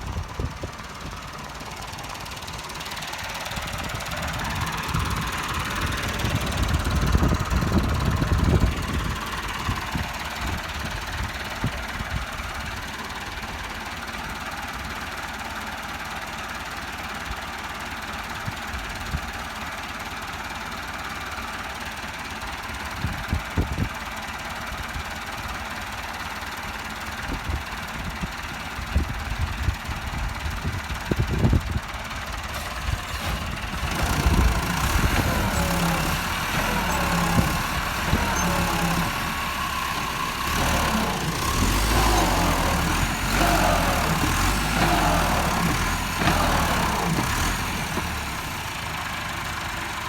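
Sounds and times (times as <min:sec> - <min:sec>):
diesel tractor engine running: 0:00.0 - 0:50.0.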